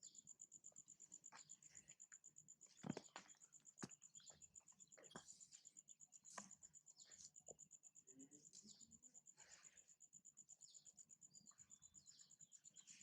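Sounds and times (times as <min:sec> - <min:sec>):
high insect trill: 0:00.0 - 0:13.0.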